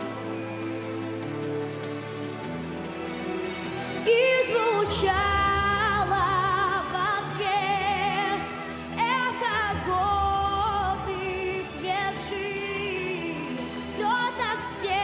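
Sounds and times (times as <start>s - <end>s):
backing music: 0.0s - 15.0s.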